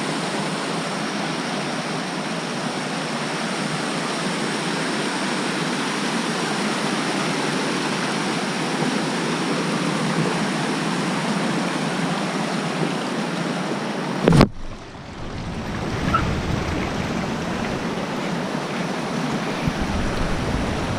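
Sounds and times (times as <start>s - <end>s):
rushing water: 0.0s - 20.9s.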